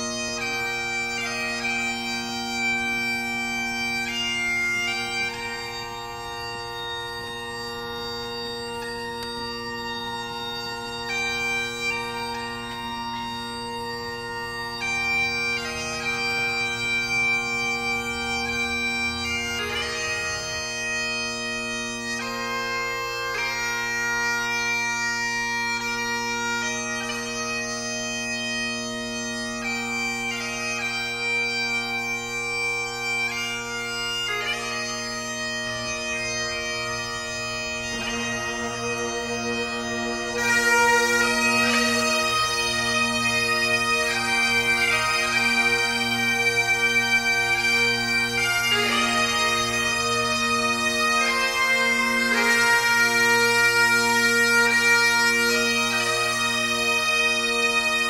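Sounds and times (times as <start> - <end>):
bagpipes playing slow tune: 0.0 - 58.0.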